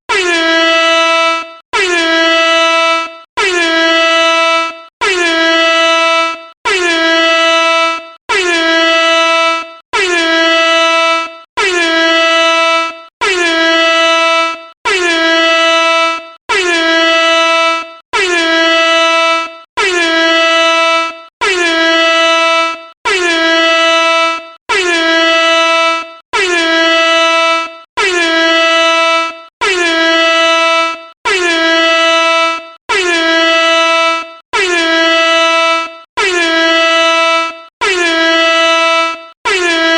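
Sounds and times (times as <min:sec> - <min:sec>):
air horn blasts: 0:00.1 - 0:39.9.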